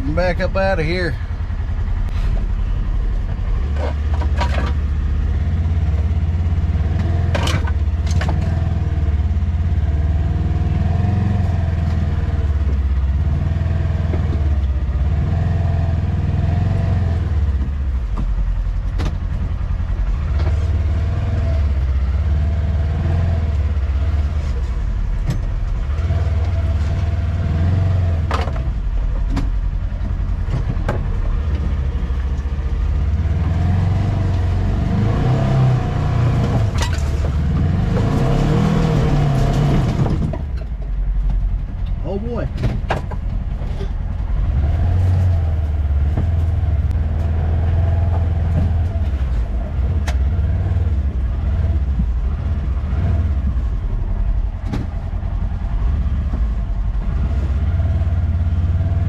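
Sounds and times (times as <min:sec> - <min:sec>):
vehicle engine running at low speed: 0:00.0 - 0:59.0.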